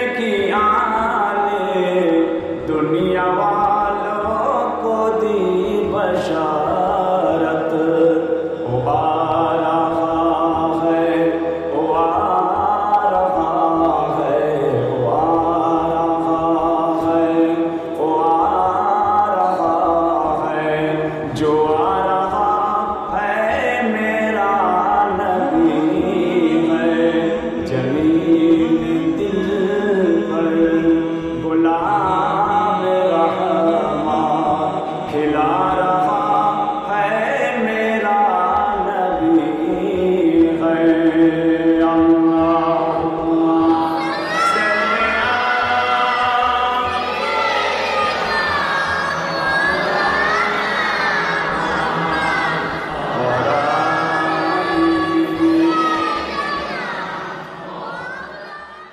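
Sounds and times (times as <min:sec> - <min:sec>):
person singing devotional song: 0:00.0 - 0:56.6.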